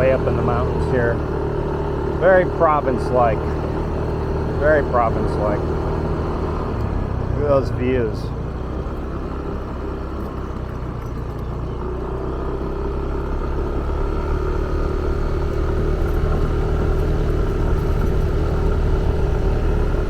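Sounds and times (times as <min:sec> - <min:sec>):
constant low rumble: 0:00.0 - 0:20.0
motorbike engine running: 0:00.0 - 0:20.0.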